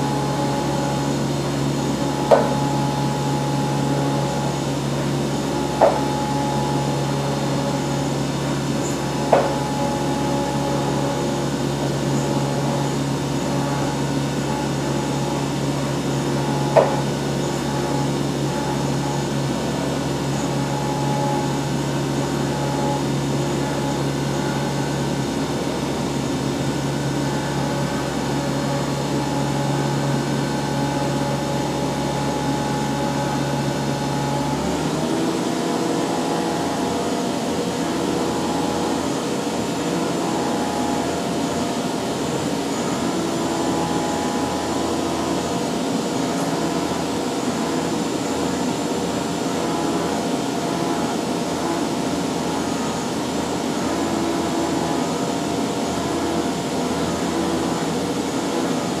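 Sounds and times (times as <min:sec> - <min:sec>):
end mill cutting metal: 0:00.0 - 0:59.0
low hum: 0:00.0 - 0:59.0
milling machine whine: 0:00.0 - 0:59.0.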